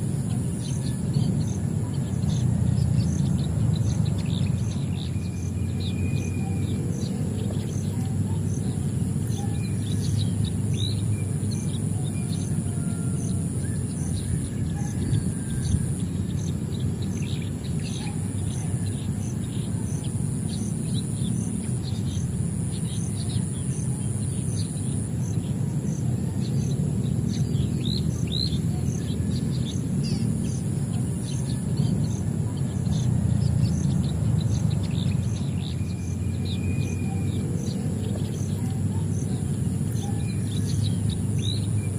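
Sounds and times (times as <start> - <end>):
high-pitched hum with faint pulse: 0.0 - 41.9
small birds chirping: 0.0 - 41.9
steady low rumble: 0.0 - 41.9.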